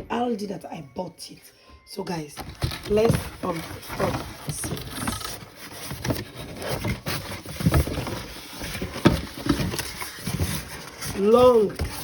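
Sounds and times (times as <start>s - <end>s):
packaging rustling: 2.4s - 12.0s.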